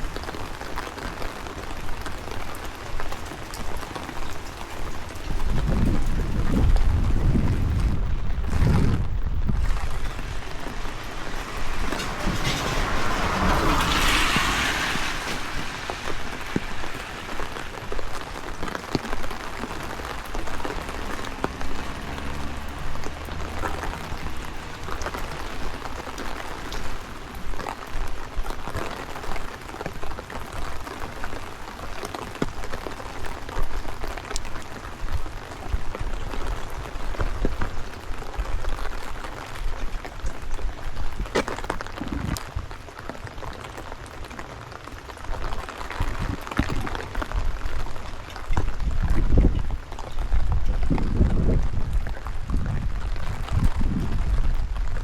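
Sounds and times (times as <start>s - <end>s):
rain falling: 0.0s - 55.0s
raindrops ticking: 0.0s - 55.0s
wind rumbling at microphone: 0.0s - 55.0s.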